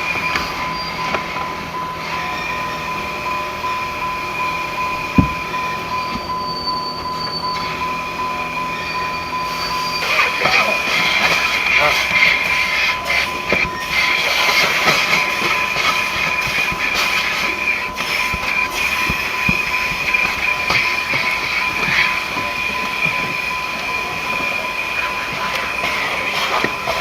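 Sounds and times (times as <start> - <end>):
car wash machinery rushing: 0.0 - 27.0
high whine: 0.0 - 27.0.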